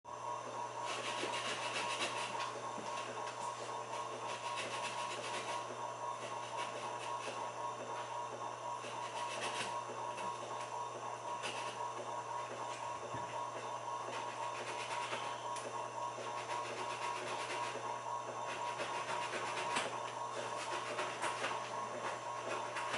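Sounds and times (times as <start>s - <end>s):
servo motor electrical whine: 0.1s - 22.8s.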